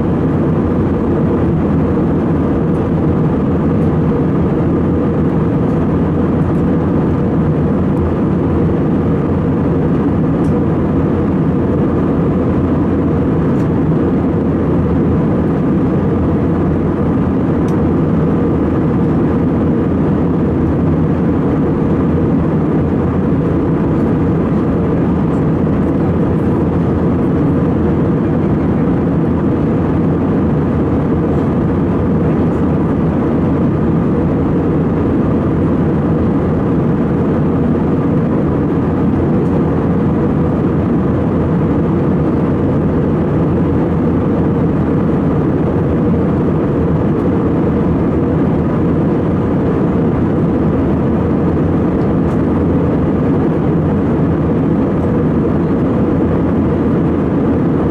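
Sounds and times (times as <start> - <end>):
airflow: 0.0 - 57.9
airplane engines droning: 0.0 - 57.9.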